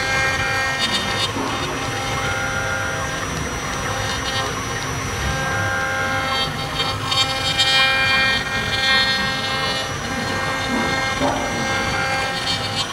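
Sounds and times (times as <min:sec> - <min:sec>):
bit rasping through wood: 0:00.0 - 0:12.9
router spindle high whine: 0:00.0 - 0:12.9.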